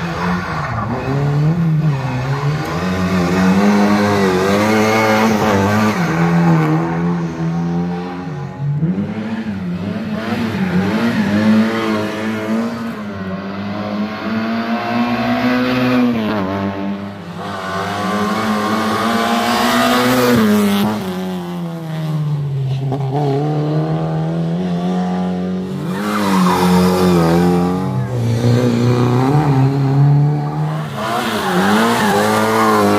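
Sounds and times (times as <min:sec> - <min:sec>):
rally car engine revving hard: 0:00.1 - 0:13.0, 0:13.7 - 0:32.9.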